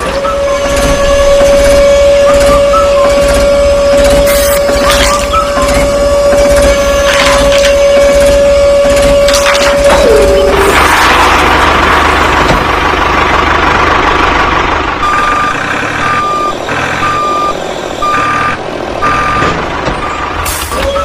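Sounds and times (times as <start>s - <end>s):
reversing alarm beeping: 0.0s - 11.4s, 15.0s - 21.0s
engine running: 0.0s - 20.8s.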